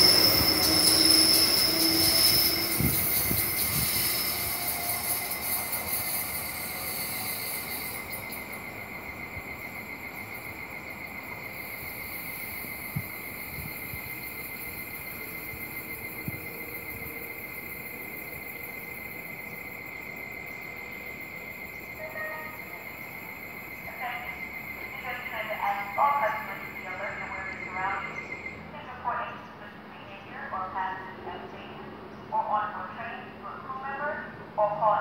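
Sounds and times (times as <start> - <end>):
insects trilling: 0.0 - 29.6
departing train: 0.0 - 35.0.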